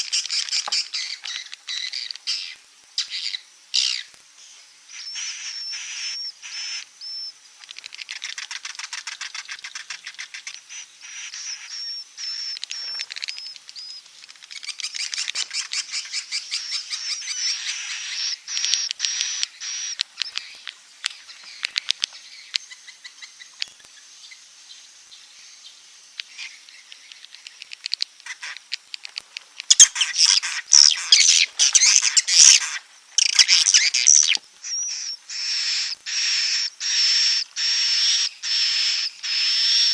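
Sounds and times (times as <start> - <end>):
swiftlets twittering chirps: 4.9 - 24.4, 25.4 - 39.9.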